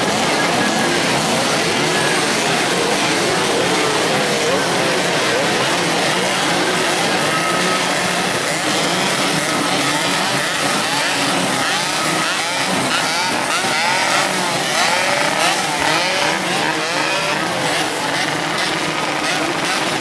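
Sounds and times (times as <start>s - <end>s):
two-stroke motorcycle engines revving: 0.0s - 20.0s.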